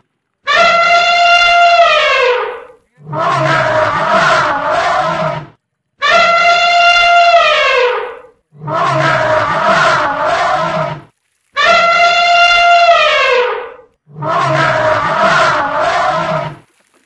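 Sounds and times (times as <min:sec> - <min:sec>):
elephant trumpet blast: 0:00.4 - 0:05.4, 0:06.0 - 0:11.0, 0:11.6 - 0:16.6
elephant harsh call: 0:00.5 - 0:11.0, 0:11.6 - 0:16.6.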